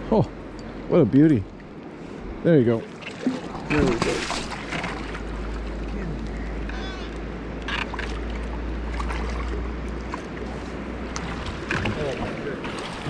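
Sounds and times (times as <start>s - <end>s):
river water rushing and lapping: 0.0s - 13.0s.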